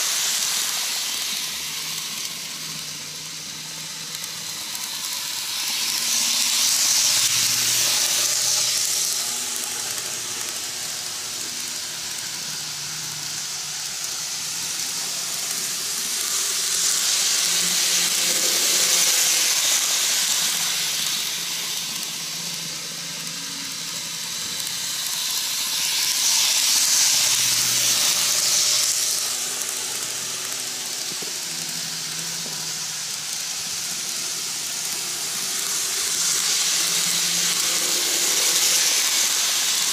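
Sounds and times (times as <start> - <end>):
model trains rattling on track: 0.0 - 39.9.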